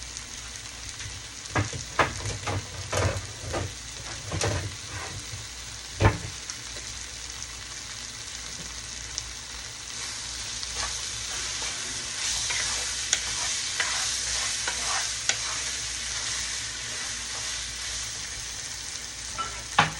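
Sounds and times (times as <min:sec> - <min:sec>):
food sizzling in a pan: 0:00.0 - 0:19.9.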